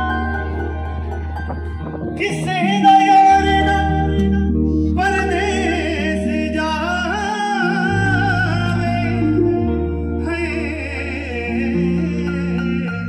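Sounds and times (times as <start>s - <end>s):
bass: 0.0s - 13.0s
guitar: 0.0s - 13.0s
keyboard chords: 0.0s - 13.0s
ornamented lead melody: 0.0s - 13.0s.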